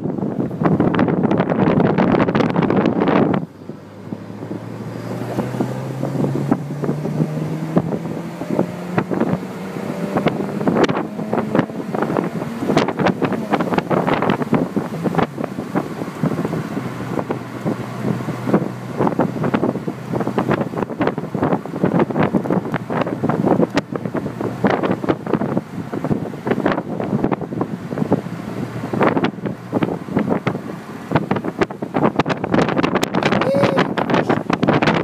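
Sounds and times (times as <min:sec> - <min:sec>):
car engine droning: 0:00.0 - 0:35.0
wind buffeting microphone: 0:00.0 - 0:35.0.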